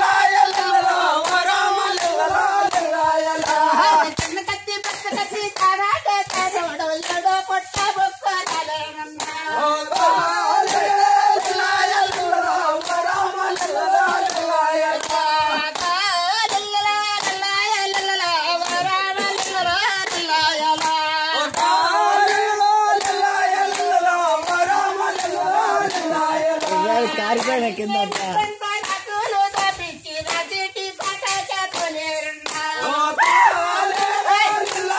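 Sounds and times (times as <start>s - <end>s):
group singing a folk song: 0.0s - 34.9s
rhythmic hand clapping: 0.0s - 34.9s.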